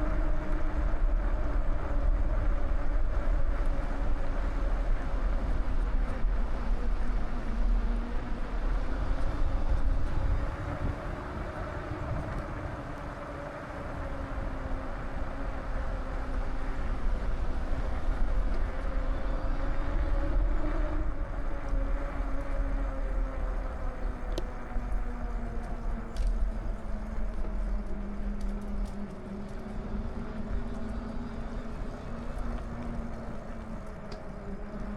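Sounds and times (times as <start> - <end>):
wind rumbling on microphone: 0.0 - 34.9.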